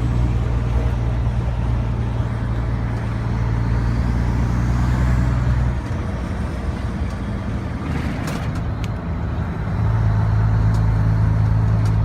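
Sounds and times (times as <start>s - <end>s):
diesel truck engine pulling: 0.0s - 12.0s.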